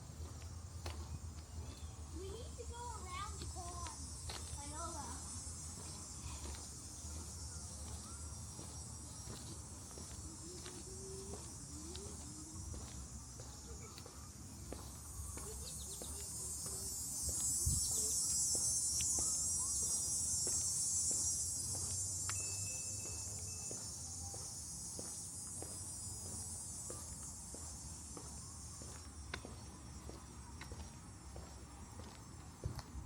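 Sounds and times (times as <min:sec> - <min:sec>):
insect buzz: 0:00.0 - 0:32.8
footsteps on wooden boardwalk: 0:00.0 - 0:33.0.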